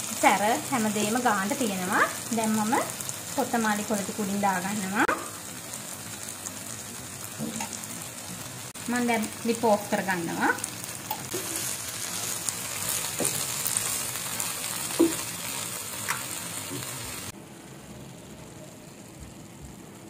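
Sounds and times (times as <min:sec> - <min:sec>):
garlic sizzling in frying pan: 0:00.0 - 0:20.0.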